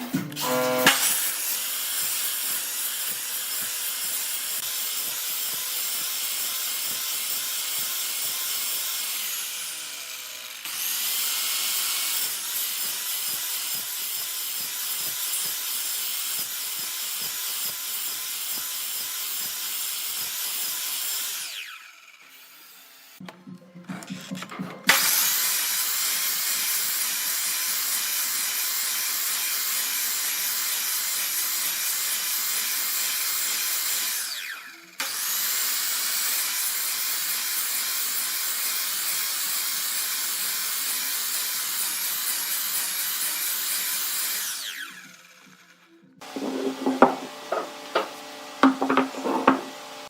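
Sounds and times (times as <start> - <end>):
power tool cutting wood: 0.0 - 23.3, 24.0 - 50.0.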